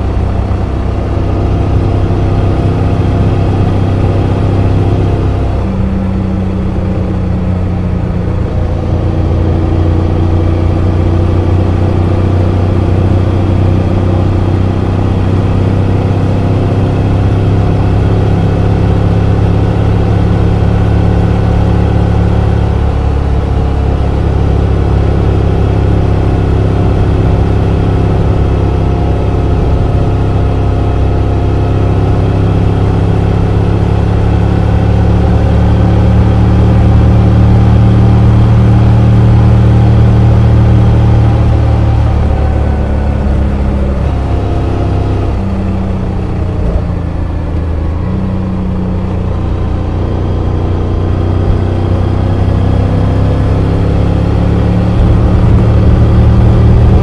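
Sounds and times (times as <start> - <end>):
motorcycle engine cruising: 0.0 - 57.0
road and wind rush: 0.0 - 57.0.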